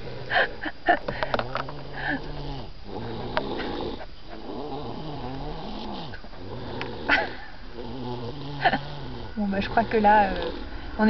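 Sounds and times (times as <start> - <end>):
person snoring: 1.3 - 11.0.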